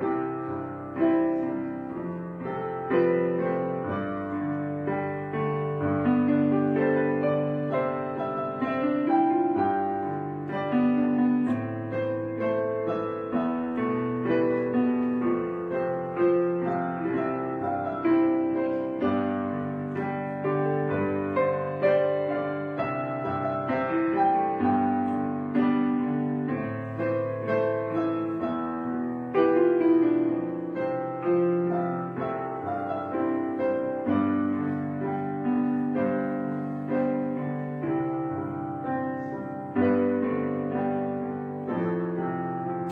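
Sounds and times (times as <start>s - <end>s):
slow gentle solo piano: 0.0s - 42.9s.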